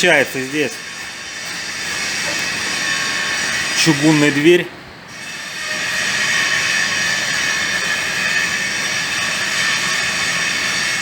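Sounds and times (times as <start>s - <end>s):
workshop machinery hissing and whining: 0.0s - 11.0s.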